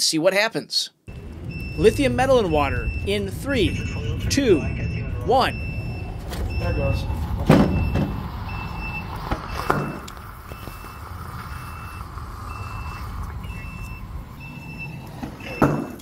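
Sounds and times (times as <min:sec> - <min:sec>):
vehicle reversing beeper: 0:01.1 - 0:16.0.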